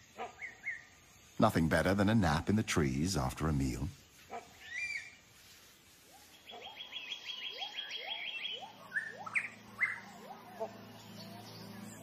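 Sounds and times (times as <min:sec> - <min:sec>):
forest birds calling: 0:00.0 - 0:12.0.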